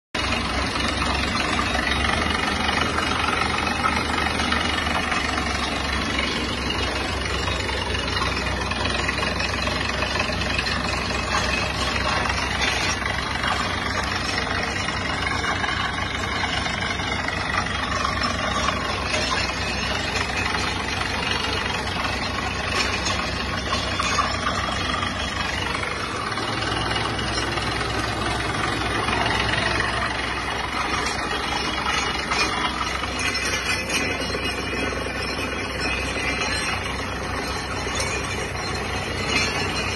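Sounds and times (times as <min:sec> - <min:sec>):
drilling rig engine: 0:00.2 - 0:39.9.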